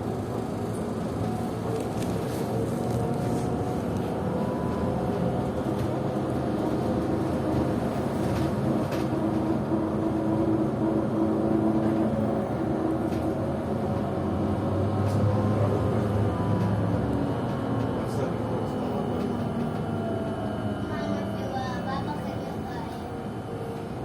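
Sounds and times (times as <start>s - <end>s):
road and running-gear rumble: 0.0s - 21.0s.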